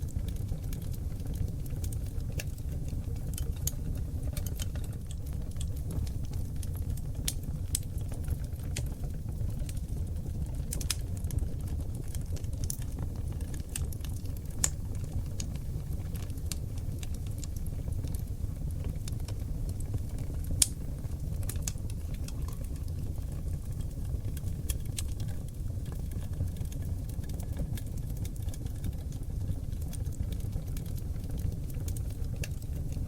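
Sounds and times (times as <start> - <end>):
fire rumbling: 0.0 - 33.0
wood fire crackling and popping: 0.0 - 33.0.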